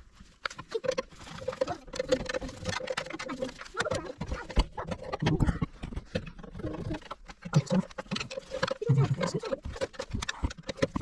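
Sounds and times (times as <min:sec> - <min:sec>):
metal parts clicking and rattling: 0:00.1 - 0:11.0.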